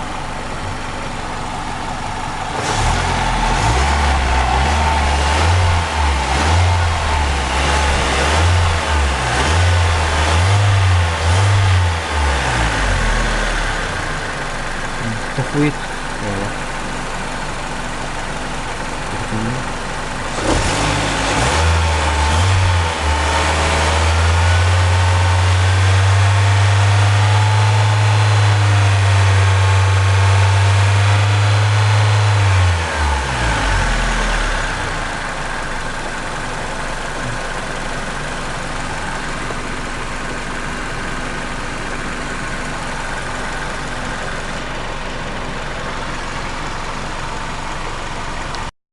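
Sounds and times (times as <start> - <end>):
car engine idling and revving: 0.0 - 48.7.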